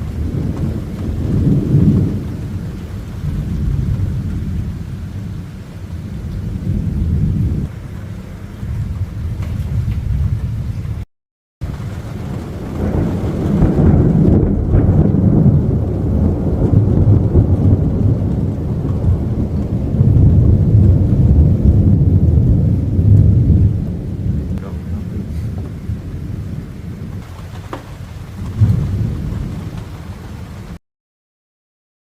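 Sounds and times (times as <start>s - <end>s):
thunder rumbling: 0.0s - 30.8s.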